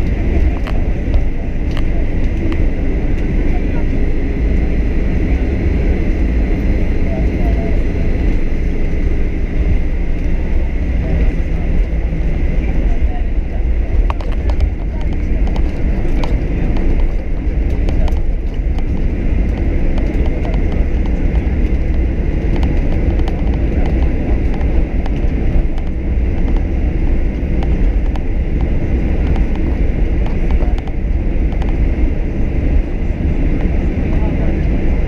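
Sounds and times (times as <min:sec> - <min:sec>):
airplane cabin rumble: 0:00.0 - 0:35.0.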